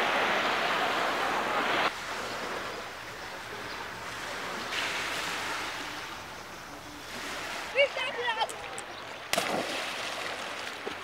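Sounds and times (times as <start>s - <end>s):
sea and wind hiss: 0.0s - 11.0s
seawater splashing at microphone: 2.0s - 11.0s.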